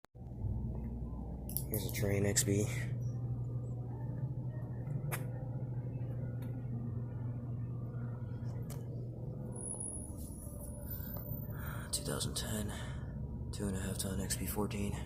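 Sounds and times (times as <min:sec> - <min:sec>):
air conditioner humming: 0:00.2 - 0:15.0.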